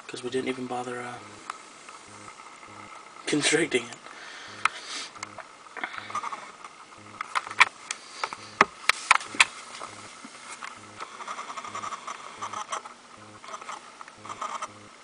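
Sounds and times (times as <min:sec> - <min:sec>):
soft crackling rustle: 0:00.0 - 0:15.0.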